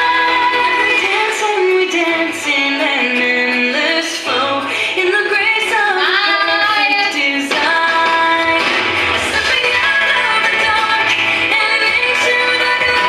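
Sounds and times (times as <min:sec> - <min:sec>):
pop song with female vocal: 0:00.0 - 0:13.0.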